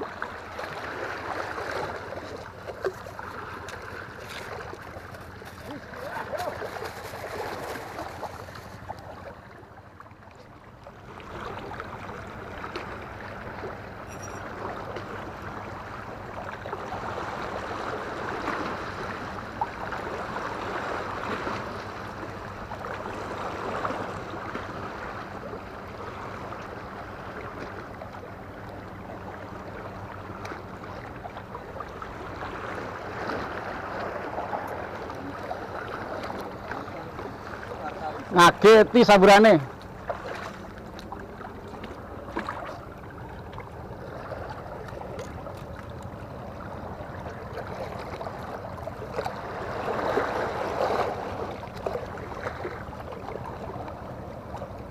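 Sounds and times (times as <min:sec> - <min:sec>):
water lapping against seawall: 0:00.0 - 0:54.9.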